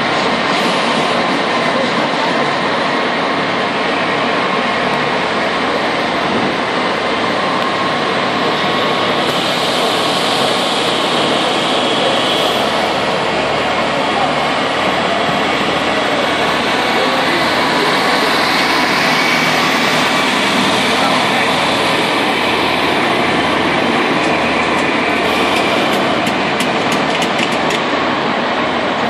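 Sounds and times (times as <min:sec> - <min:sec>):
ice resurfacer engine running: 0:00.0 - 0:29.0.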